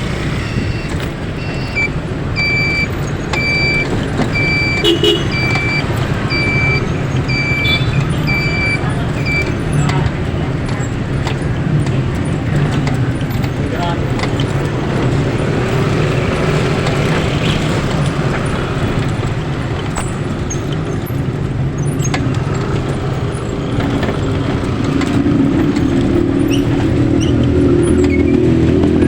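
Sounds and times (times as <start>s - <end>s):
road and traffic noise: 0.0s - 29.0s
vehicle engine running: 0.0s - 29.0s.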